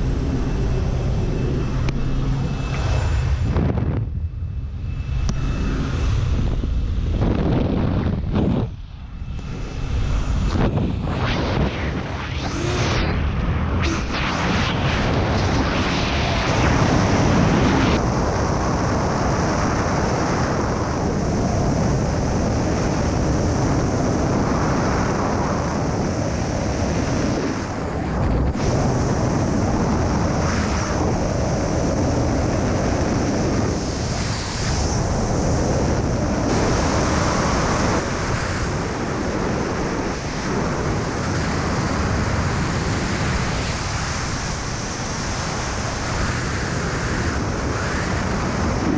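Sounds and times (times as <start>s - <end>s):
rush of freefall air: 0.0s - 48.9s.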